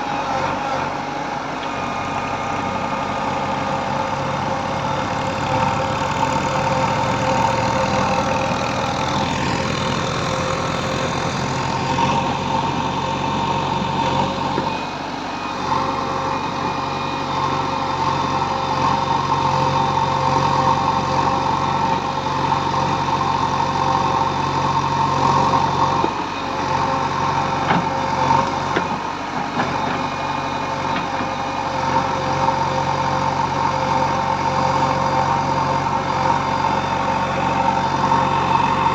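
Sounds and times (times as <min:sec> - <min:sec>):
constant whine: 0:00.0 - 0:38.9
diesel machinery engine running: 0:00.0 - 0:38.9.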